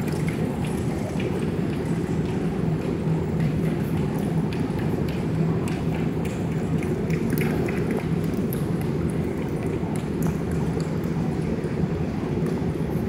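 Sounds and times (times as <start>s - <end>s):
low hum of indoor arena: 0.0s - 13.0s.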